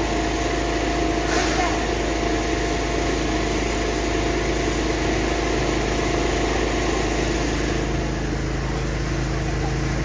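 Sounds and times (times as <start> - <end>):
large vehicle engines idling: 0.0 - 10.0.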